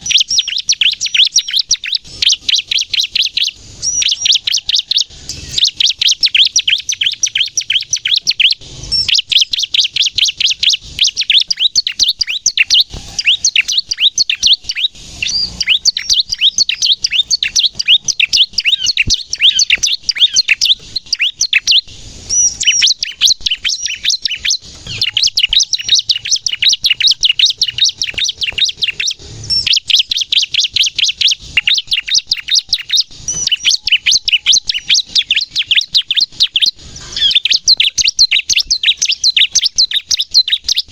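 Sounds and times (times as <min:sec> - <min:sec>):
bird rapid high chirping song: 0:00.0 - 0:40.9.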